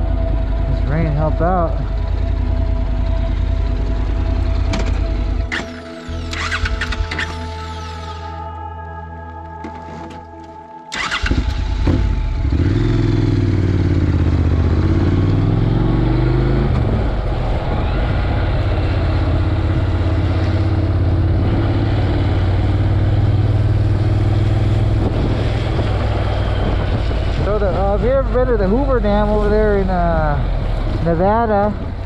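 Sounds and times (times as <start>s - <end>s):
motorcycle engine accelerating: 0.0s - 8.2s, 10.9s - 32.0s.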